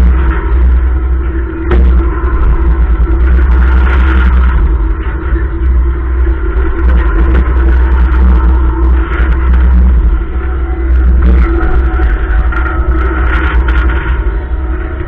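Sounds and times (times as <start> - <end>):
fairground ride rumbling: 0.0 - 15.0
steady hum: 0.0 - 15.0.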